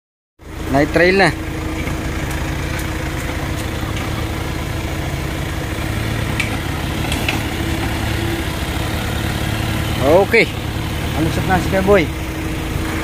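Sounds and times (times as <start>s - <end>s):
car engine idling: 0.4s - 13.0s.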